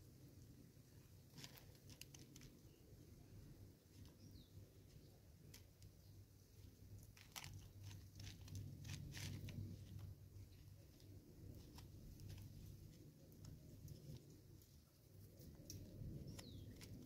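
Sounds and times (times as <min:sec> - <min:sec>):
monkey rummaging in plastic feeder: 0:01.3 - 0:02.8, 0:03.9 - 0:17.0.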